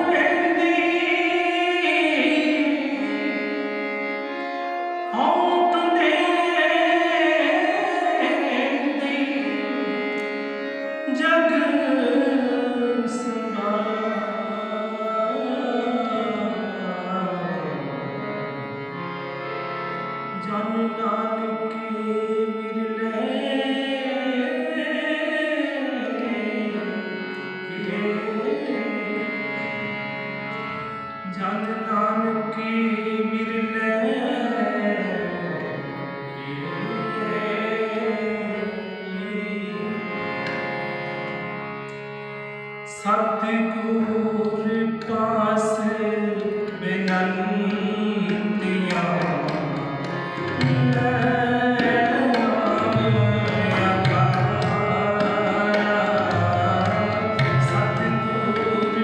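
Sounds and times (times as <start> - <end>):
man singing wordlessly: 0.0 - 3.8, 5.1 - 10.2, 11.1 - 17.9, 20.3 - 29.6, 31.2 - 40.4, 42.9 - 59.0
harmoniums playing chords: 0.0 - 59.0
tabla: 0.0 - 59.0.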